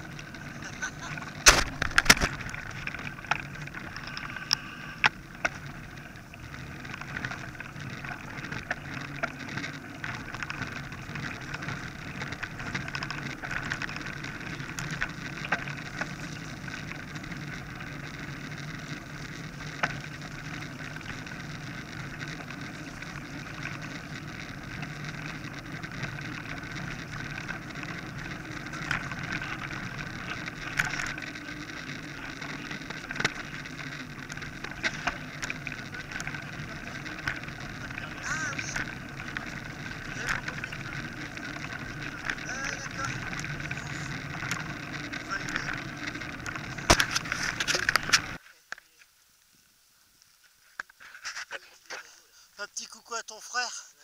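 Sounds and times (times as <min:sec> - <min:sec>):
bike rattling: 0:00.0 - 0:48.4
bike tyres rolling on gravel: 0:00.0 - 0:53.2.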